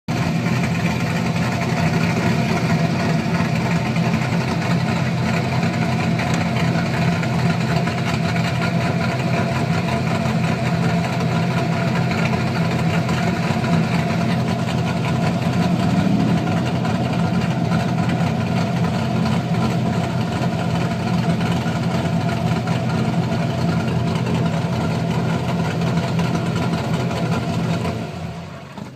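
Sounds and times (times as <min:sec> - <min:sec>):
engine idling with choppy lope: 0:00.1 - 0:28.9.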